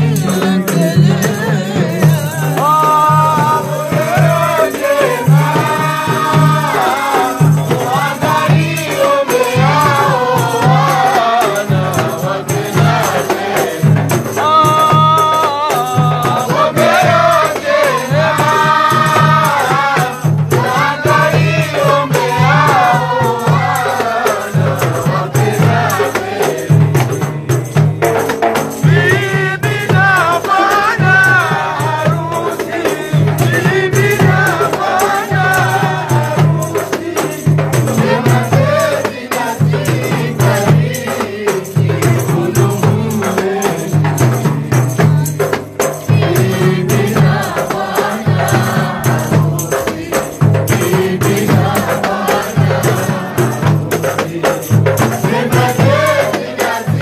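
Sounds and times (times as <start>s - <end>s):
crowd singing in chorus: 0.0s - 57.0s
low drum beat: 0.0s - 57.0s
rattling shaker percussion: 0.0s - 57.0s.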